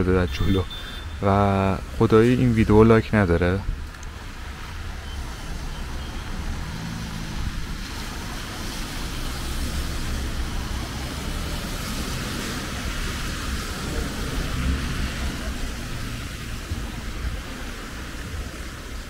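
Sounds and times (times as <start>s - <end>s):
heavy rain: 0.0s - 19.0s
tyres hissing on wet road: 0.0s - 19.0s
cars driving past: 1.8s - 19.0s.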